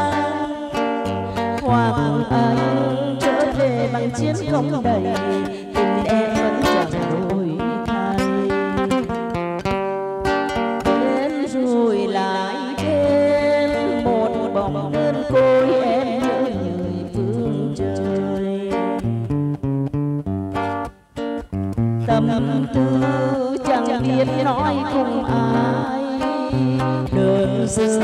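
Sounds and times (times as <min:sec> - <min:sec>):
woman singing into microphone: 0:00.0 - 0:09.3, 0:10.8 - 0:19.1, 0:22.1 - 0:28.0
acoustic guitar: 0:00.0 - 0:28.0.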